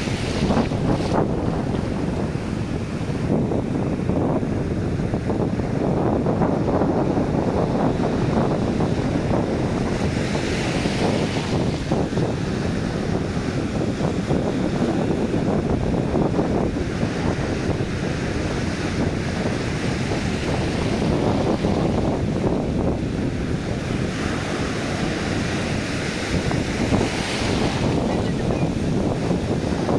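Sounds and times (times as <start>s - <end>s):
waves breaking on sandy beach: 0.0s - 29.9s
wind buffeting microphone: 0.0s - 29.9s.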